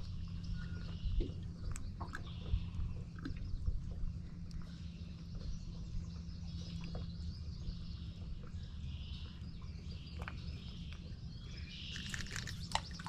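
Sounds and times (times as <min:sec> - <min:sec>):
birds chirping faintly: 0:00.0 - 0:13.0
steady low rumble: 0:00.0 - 0:13.0.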